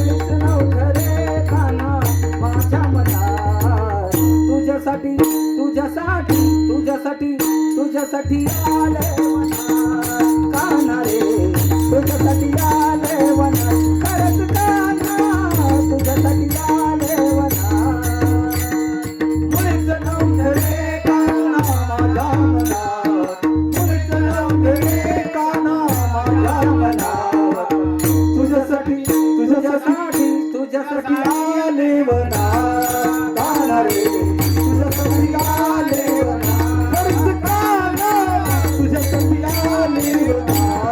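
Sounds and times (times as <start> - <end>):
busy percussion strokes: 0.0 - 31.6, 32.2 - 40.9.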